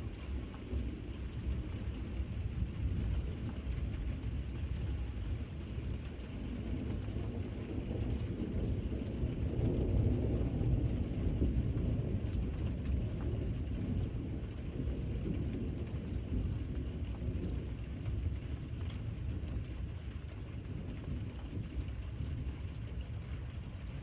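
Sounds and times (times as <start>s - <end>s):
rain hiss: 0.0s - 24.0s
rolling thunder rumble: 0.0s - 24.0s.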